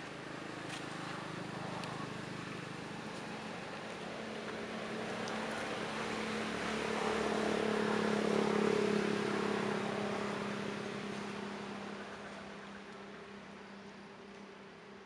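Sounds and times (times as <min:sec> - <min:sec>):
motor vehicle passing by: 0:00.4 - 0:12.9.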